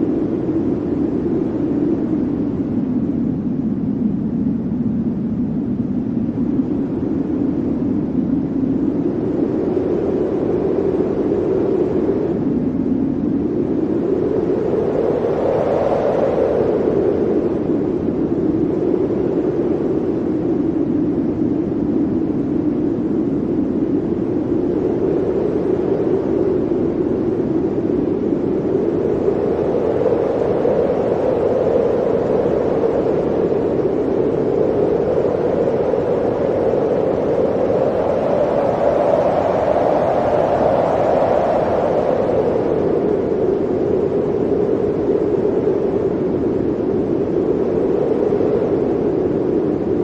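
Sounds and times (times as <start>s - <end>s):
blizzard wind howling: 0.0s - 50.0s.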